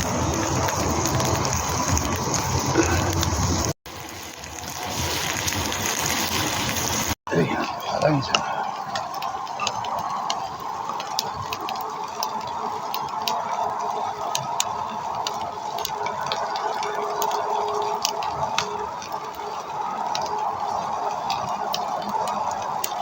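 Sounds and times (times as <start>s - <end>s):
meat sizzling with crackles: 0.0s - 23.0s
wood fire crackling: 0.0s - 23.0s.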